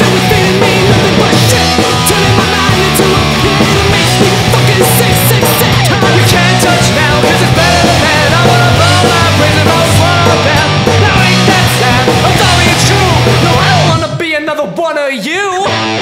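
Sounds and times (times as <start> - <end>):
electric guitars: 0.0 - 14.0, 15.6 - 16.0
bass guitar: 0.0 - 14.2, 15.6 - 16.0
drums: 0.0 - 16.0
rock song: 0.0 - 16.0.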